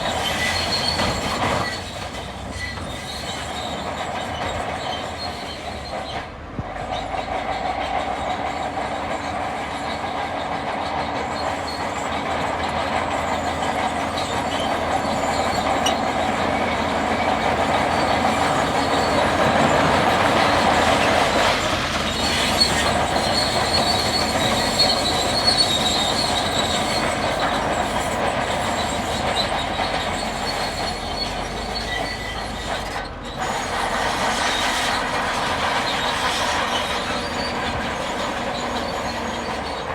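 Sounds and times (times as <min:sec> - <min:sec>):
diesel engine under load: 0:00.0 - 0:39.9
steel tracks squealing and clanking: 0:00.0 - 0:39.9.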